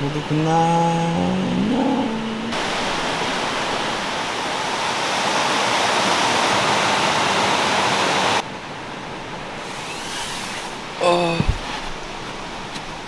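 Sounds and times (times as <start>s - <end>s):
stream rushing: 0.0s - 11.2s.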